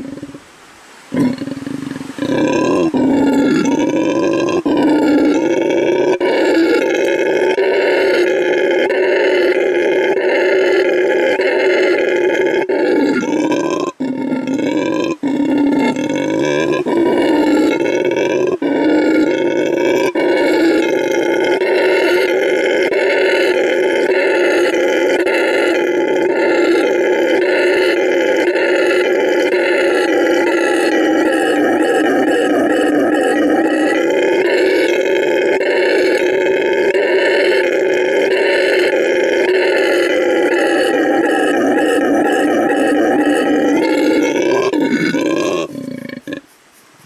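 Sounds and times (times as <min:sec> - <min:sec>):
howler monkey howling: 0:00.0 - 0:00.5, 0:01.1 - 0:46.6.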